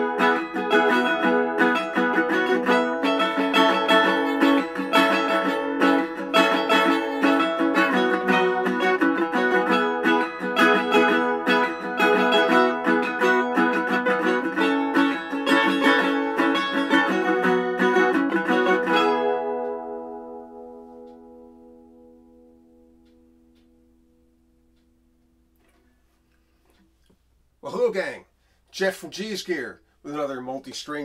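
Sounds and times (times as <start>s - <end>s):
resonator mandolin picking: 0.0s - 27.2s.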